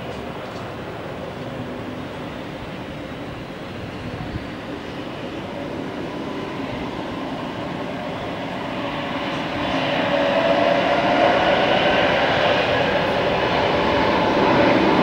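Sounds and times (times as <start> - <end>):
jet engines whining roar: 0.0 - 15.0.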